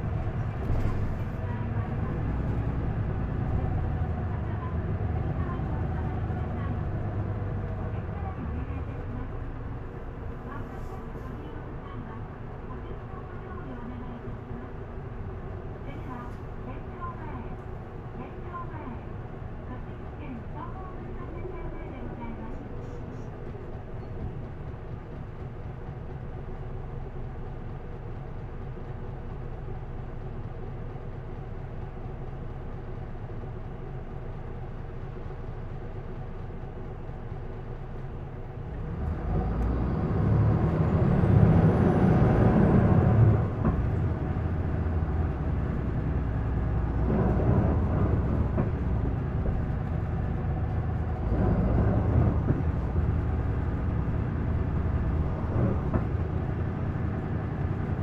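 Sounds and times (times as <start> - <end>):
bus diesel engine idling and revving: 0.0 - 58.0.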